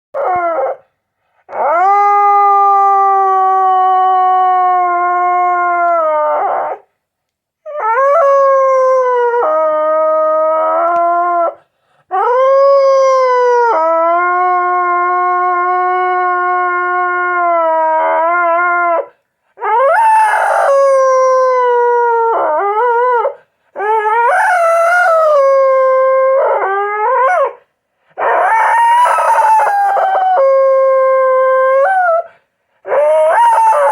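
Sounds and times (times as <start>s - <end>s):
dog howling: 0.2s - 0.8s, 1.5s - 6.9s, 7.7s - 27.6s, 28.2s - 33.9s.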